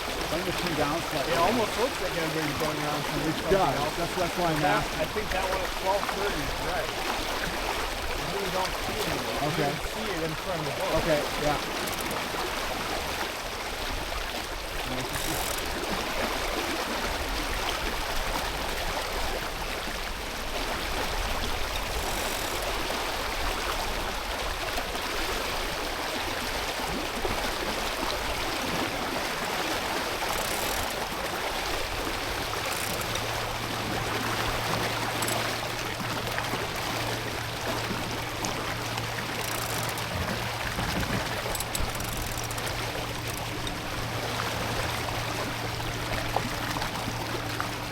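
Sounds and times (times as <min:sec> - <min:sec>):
water rushing past hull: 0:00.0 - 0:47.9.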